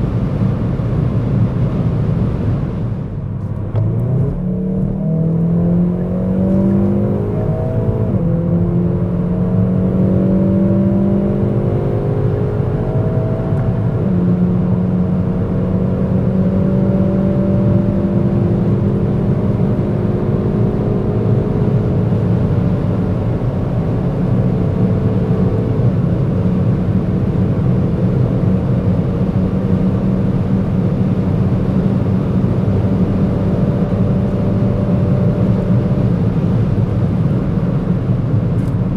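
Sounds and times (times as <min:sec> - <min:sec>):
car engine revving at high speed: 0:00.0 - 0:38.9.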